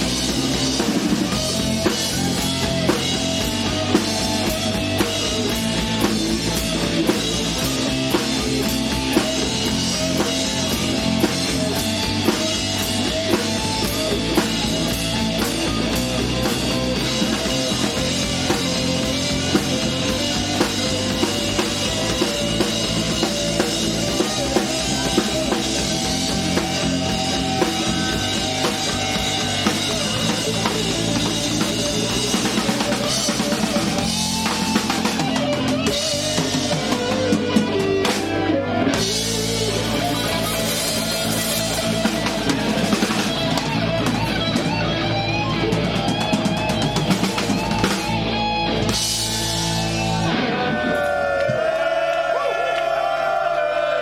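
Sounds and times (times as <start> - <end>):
live rock band playing: 0.0 - 51.4.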